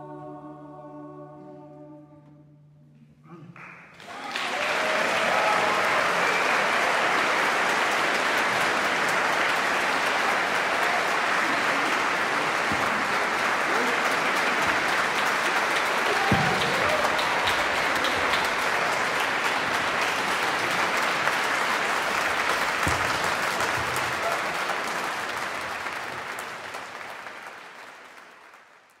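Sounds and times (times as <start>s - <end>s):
applause: 3.6s - 29.0s.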